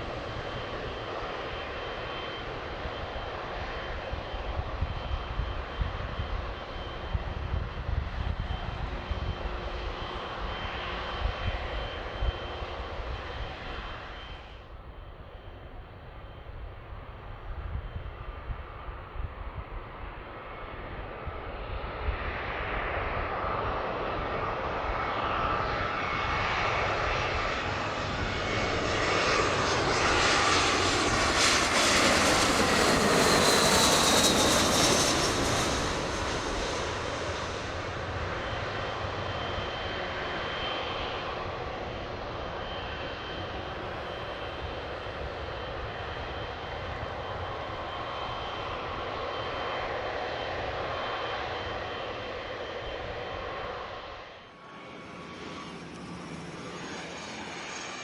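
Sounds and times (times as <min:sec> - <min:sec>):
faint high jet whine: 0:00.0 - 0:58.0
jet airliner flying past: 0:00.0 - 0:58.0.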